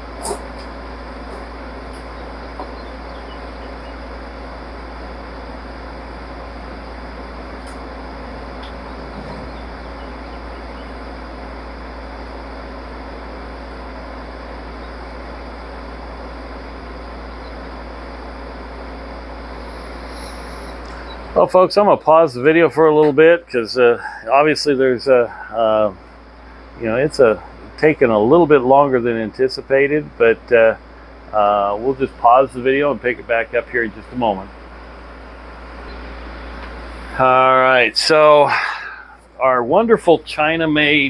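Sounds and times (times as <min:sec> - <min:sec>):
low drone hum: 0:00.0 - 0:41.0.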